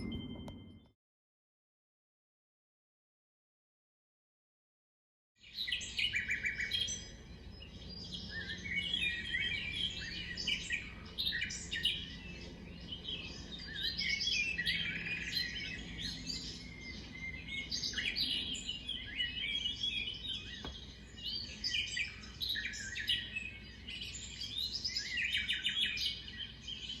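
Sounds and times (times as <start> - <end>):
songbird singing: 5.4 - 27.0.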